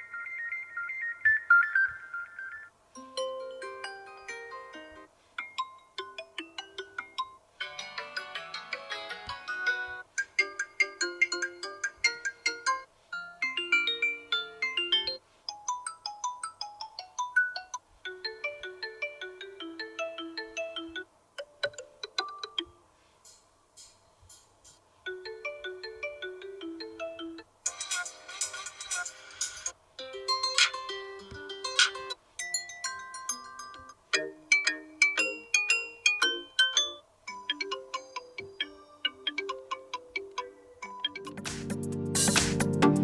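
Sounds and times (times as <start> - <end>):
phone ringtone melodies: 0.0 - 21.1, 25.1 - 43.0.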